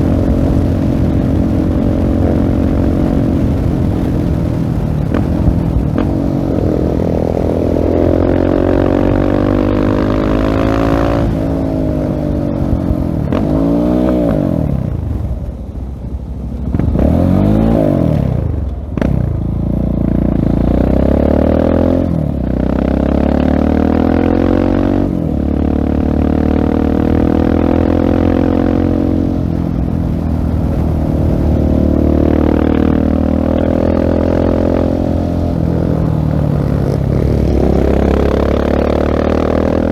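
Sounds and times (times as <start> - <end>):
motorcycle engine revving: 0.0 - 15.5, 16.6 - 39.9.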